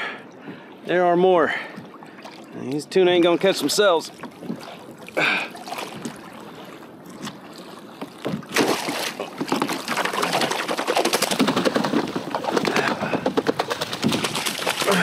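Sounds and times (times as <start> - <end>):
fish tail splashing water: 1.5 - 15.0.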